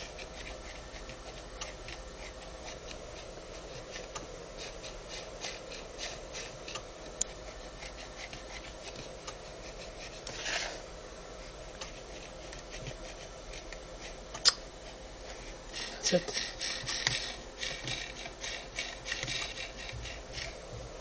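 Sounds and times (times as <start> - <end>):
mouse sliding and clicking: 0.0 - 10.9, 11.5 - 14.2, 14.8 - 20.6
faint steady hum: 0.0 - 21.0.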